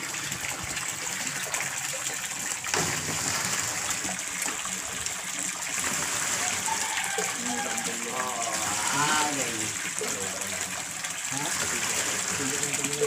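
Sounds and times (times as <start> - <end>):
water gushing into tank: 0.0 - 13.0.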